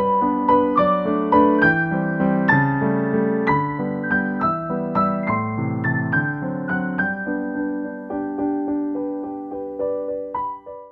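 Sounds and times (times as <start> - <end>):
gentle piano melody: 0.0 - 10.9.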